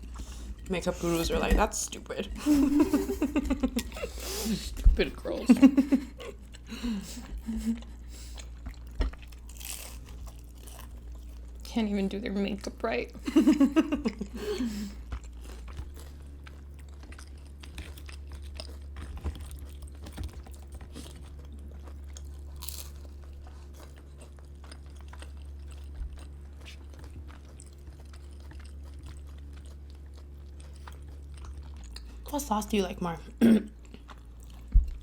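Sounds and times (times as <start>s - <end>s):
person chewing food: 0.0s - 1.5s, 2.3s - 11.7s, 13.2s - 32.5s, 33.3s - 35.0s.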